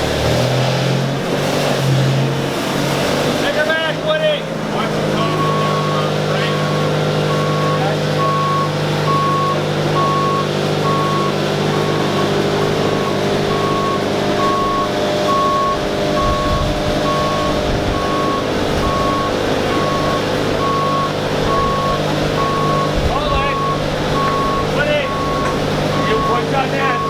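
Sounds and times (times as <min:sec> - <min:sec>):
heavy vehicle engine running: 0:00.0 - 0:27.0
back-up alarm beeping: 0:05.2 - 0:27.0.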